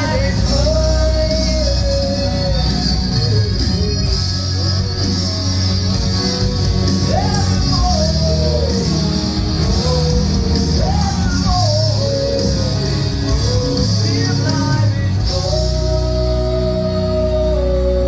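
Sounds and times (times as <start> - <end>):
bass and band accompaniment: 0.0 - 18.0.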